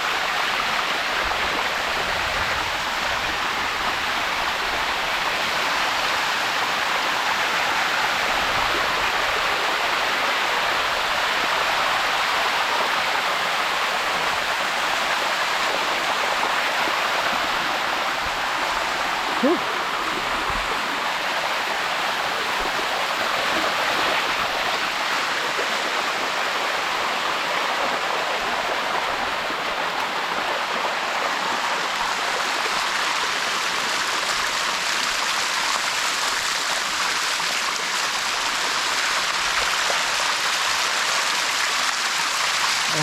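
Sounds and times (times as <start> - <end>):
waterfall rushing over rock: 0.0 - 43.0.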